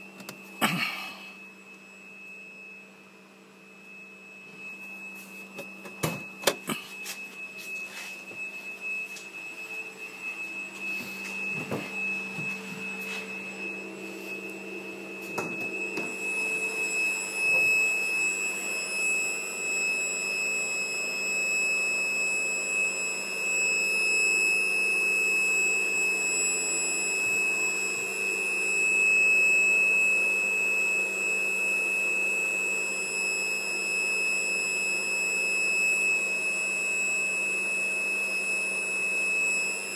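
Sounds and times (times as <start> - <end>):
steady high-pitched whistle: 0.0 - 39.9.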